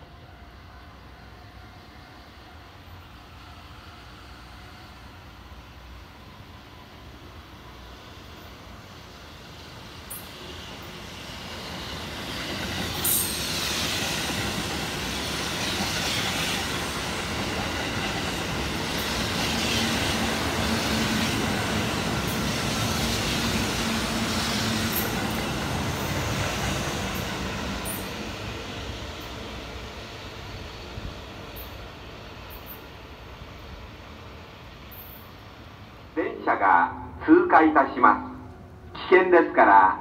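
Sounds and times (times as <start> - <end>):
train wheels rumbling on rail: 0.0 - 36.1.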